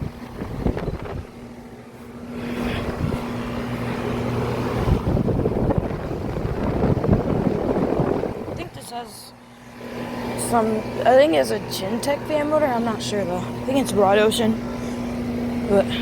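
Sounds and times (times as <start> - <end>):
compressor hum: 0.0 - 16.0
condenser fans whooshing: 0.0 - 16.0.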